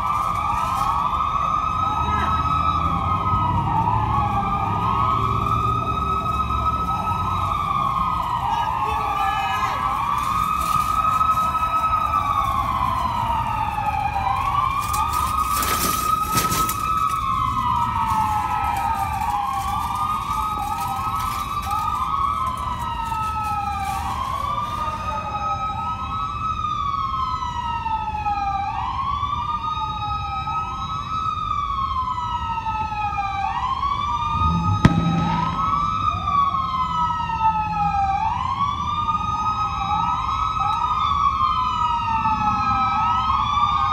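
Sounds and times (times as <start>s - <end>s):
low traffic rumble: 0.0s - 43.9s
police sirens wailing: 0.0s - 43.9s.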